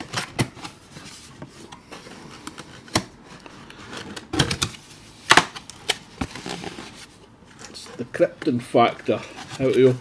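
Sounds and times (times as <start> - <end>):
cardboard flaps rustling and scraping: 0.0 - 10.0.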